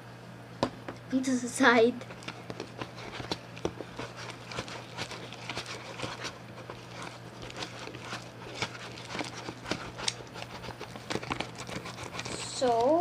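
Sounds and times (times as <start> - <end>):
slime clicking and squelching: 2.0 - 13.0.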